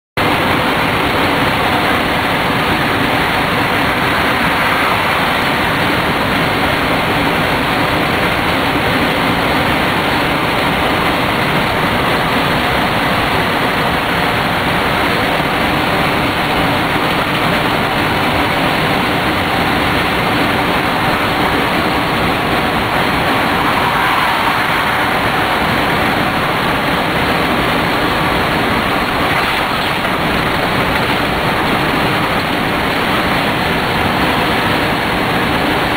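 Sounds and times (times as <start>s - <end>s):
truck engine and road noise: 0.2s - 35.9s.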